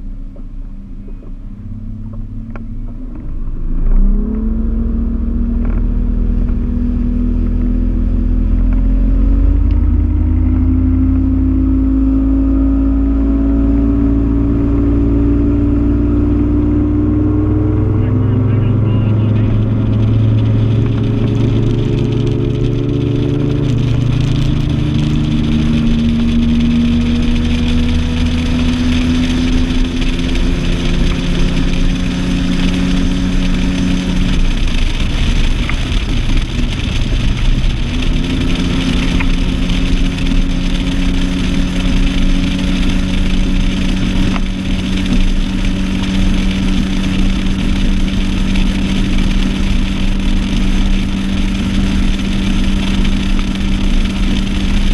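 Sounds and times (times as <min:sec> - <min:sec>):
outboard motor running: 0:00.0 - 0:54.9
rush of wind and water: 0:04.0 - 0:54.9.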